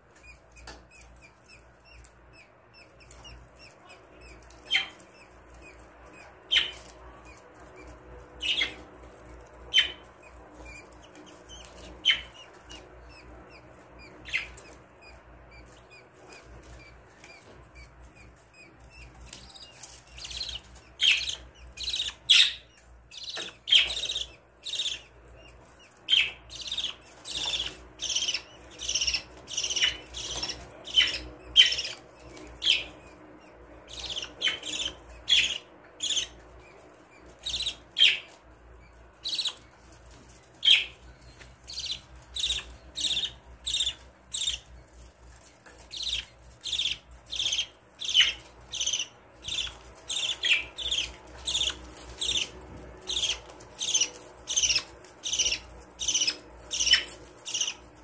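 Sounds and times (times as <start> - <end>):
budgerigars chirping: 0.1 - 58.0.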